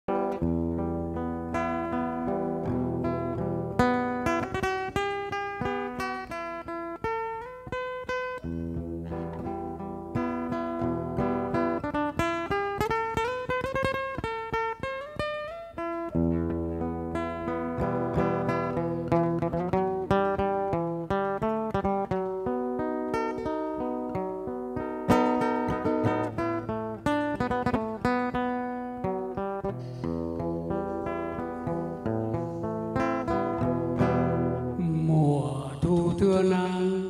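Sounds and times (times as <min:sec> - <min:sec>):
fingerpicked acoustic guitar: 0:00.1 - 0:37.0.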